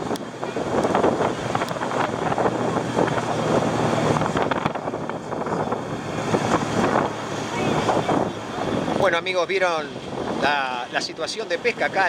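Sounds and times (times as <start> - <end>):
propeller plane engine drone: 0.0 - 12.0
surf rushing: 0.0 - 12.0
wind buffeting microphone: 0.0 - 12.0.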